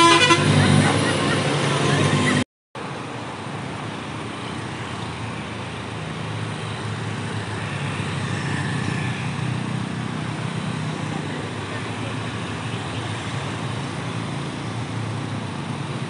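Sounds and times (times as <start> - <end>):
bus engine drone: 0.0 - 16.0
car and motorbike engines: 0.0 - 16.0.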